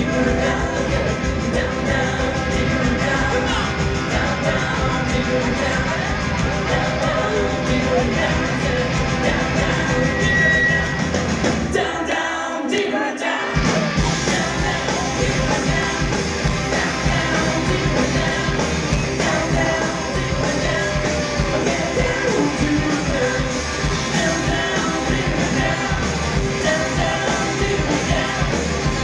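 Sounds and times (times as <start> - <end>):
live rock band playing: 0.0 - 11.8, 13.4 - 29.0.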